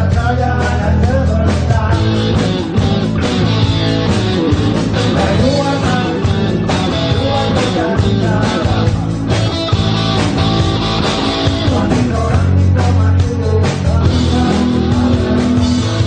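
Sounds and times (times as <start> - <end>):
rock band music with electric guitar: 0.0 - 16.0.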